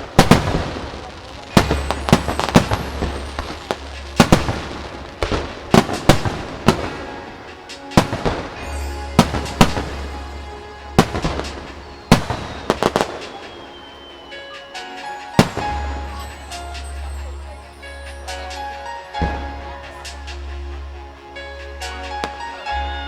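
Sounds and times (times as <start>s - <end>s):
fireworks bursting: 0.0s - 23.0s
music playing: 0.0s - 23.0s.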